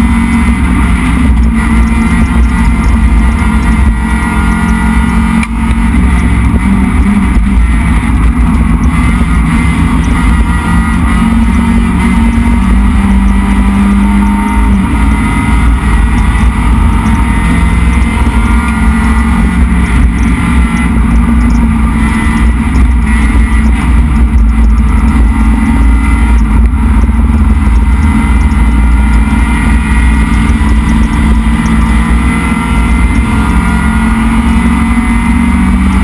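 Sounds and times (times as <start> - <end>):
race car engine running hard: 0.0 - 36.0.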